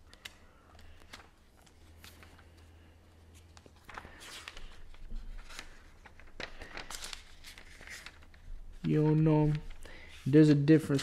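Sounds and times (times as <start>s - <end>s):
pages rustling and flicking: 0.0s - 11.0s.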